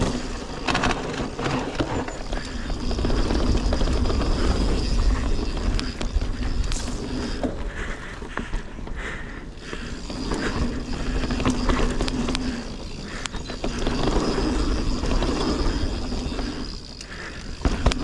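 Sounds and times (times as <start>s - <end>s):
bike rattling and knocking: 0.0s - 18.0s
tyres rumbling over dirt trail: 0.0s - 18.0s.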